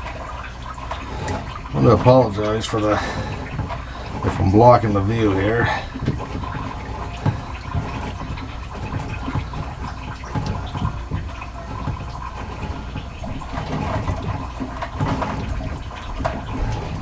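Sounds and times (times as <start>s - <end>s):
water draining into bucket: 0.0s - 17.0s.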